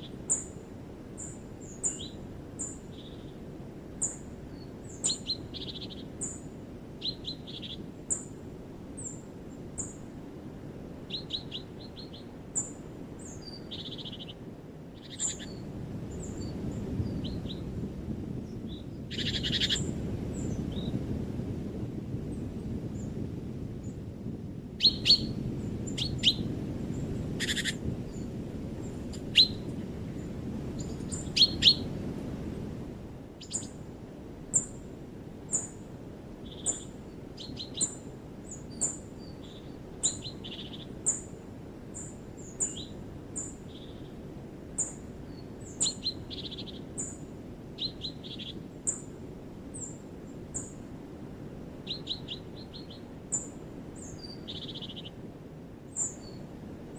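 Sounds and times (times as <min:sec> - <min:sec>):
songbirds chirping: 0:00.0 - 0:21.2, 0:24.8 - 0:56.9.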